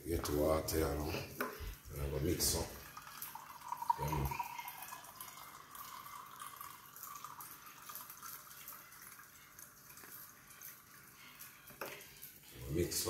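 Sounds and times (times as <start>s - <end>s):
tap water filling a mug: 0.2s - 12.3s.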